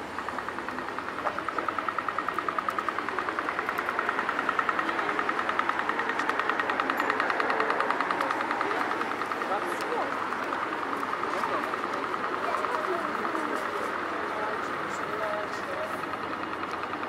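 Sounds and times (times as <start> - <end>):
crossing signal ticking rapidly: 0.0 - 17.0
low traffic noise: 0.0 - 17.0.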